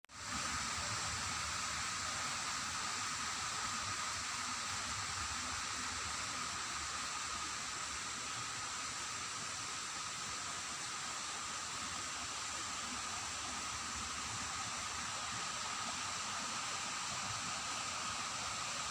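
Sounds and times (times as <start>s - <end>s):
running water rushing: 0.1s - 18.9s.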